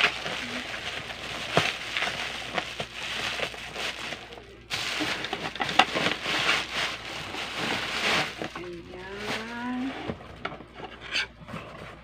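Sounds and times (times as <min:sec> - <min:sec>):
plastic wrapping crinkling: 0:00.0 - 0:10.7.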